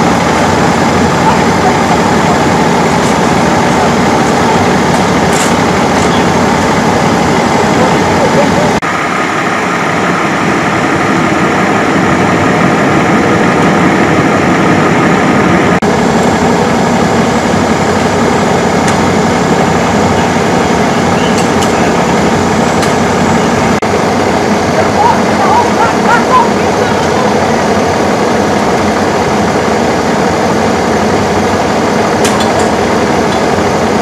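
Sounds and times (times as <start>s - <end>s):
heavy vehicle engine idling: 0.0s - 34.0s.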